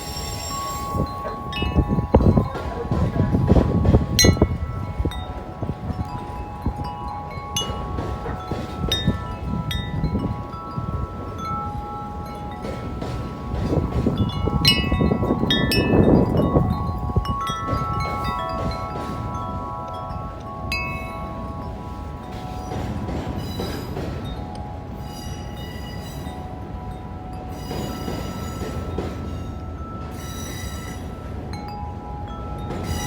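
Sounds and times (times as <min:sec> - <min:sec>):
wind buffeting microphone: 0:00.0 - 0:33.0
wind chime ringing: 0:00.0 - 0:33.0.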